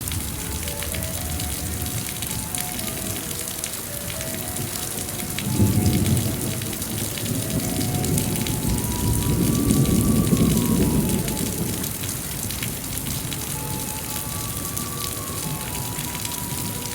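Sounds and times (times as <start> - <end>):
soft melody of held notes: 0.0 - 16.9
steady rain falling: 0.0 - 16.9.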